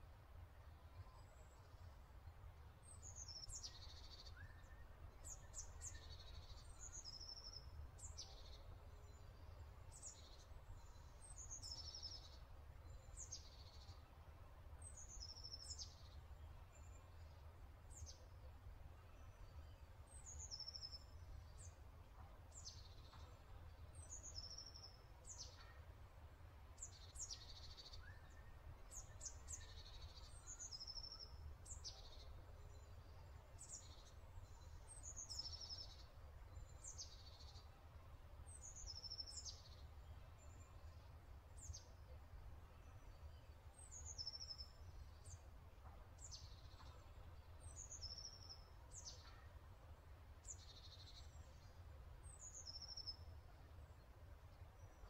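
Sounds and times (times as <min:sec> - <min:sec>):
faint songbird chirping: 0:00.0 - 0:55.0.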